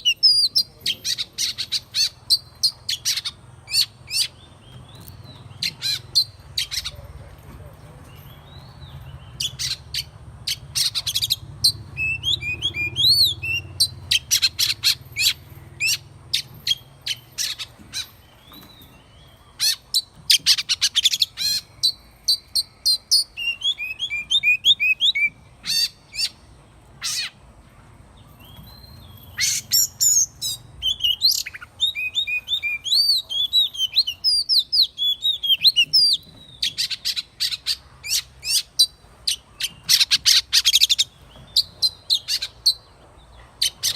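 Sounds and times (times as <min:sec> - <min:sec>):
bird singing whistled notes: 0:00.0 - 0:07.1, 0:08.0 - 0:27.4, 0:28.3 - 0:43.0.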